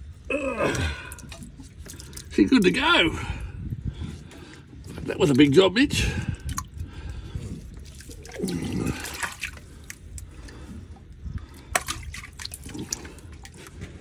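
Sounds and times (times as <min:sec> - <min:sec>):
water sloshing and dripping: 0:00.0 - 0:14.0.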